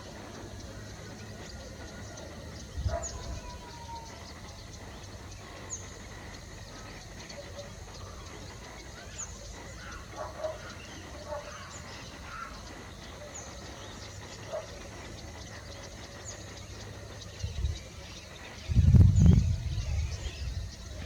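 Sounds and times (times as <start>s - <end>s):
low background noise: 0.0s - 21.0s
lower bird calls: 0.0s - 21.0s.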